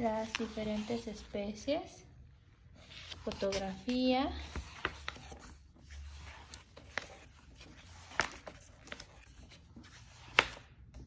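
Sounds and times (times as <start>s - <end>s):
book pages turning: 0.0s - 1.3s, 2.7s - 11.0s.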